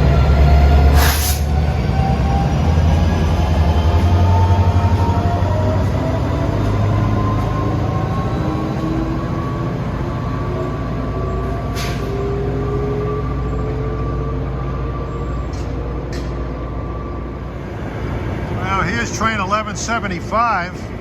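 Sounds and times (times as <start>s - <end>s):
rising whining tones: 0.0s - 18.6s
train wheels rumbling on rails: 0.0s - 21.0s.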